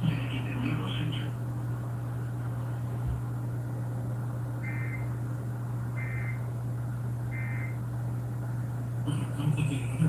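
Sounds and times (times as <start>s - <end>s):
low radio hum: 0.0s - 10.0s.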